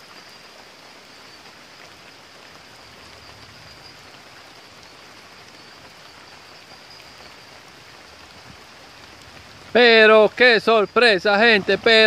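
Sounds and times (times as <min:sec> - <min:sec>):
steady rain falling: 0:00.0 - 0:12.0
stream running over rocks: 0:00.0 - 0:12.0.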